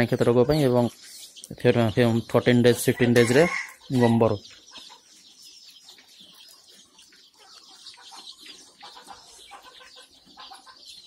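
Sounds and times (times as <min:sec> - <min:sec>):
chicks cheeping: 0:00.0 - 0:11.0.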